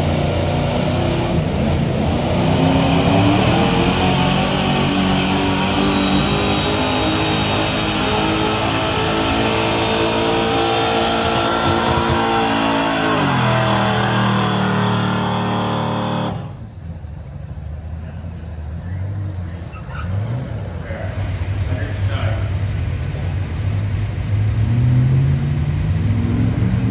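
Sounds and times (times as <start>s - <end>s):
truck engine at full throttle: 0.0s - 26.9s.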